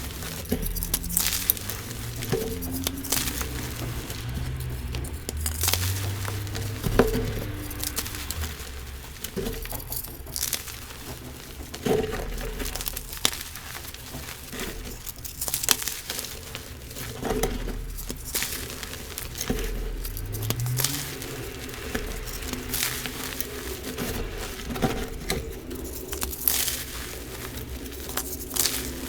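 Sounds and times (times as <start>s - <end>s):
chalk blocks crunching by hand: 0.0s - 29.0s.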